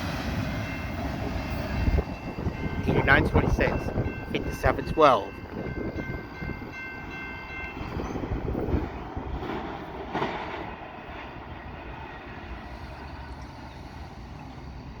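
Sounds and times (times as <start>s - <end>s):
freight train wheels on rails: 0.0s - 15.0s
train clatter: 0.0s - 15.0s.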